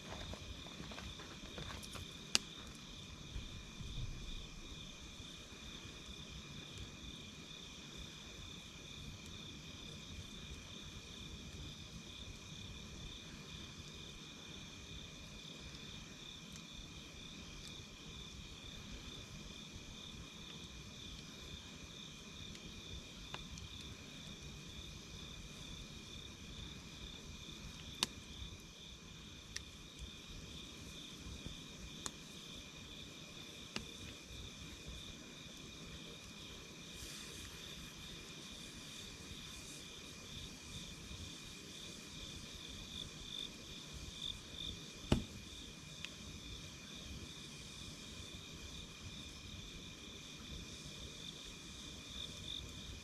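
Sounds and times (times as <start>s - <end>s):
crickets chirping: 0.0s - 53.0s
wood campfire crackling: 0.0s - 53.0s.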